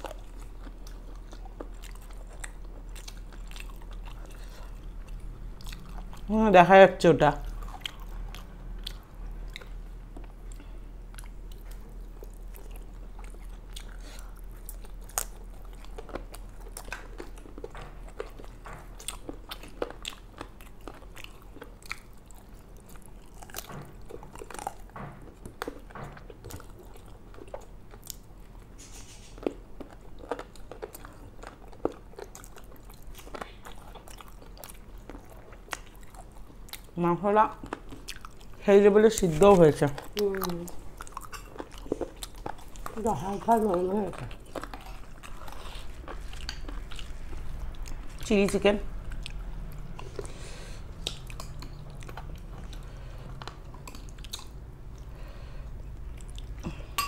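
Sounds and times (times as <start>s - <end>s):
chewing and crunching food: 0.0s - 57.0s
low steady hum: 0.0s - 57.0s.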